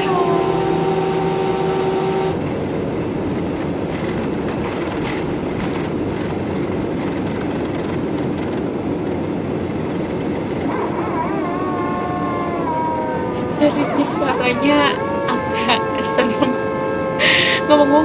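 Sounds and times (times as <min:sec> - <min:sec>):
jet engines at takeoff power: 0:00.0 - 0:17.8
steady humming tone: 0:00.0 - 0:18.0
wheels rumbling on runway: 0:00.0 - 0:18.0.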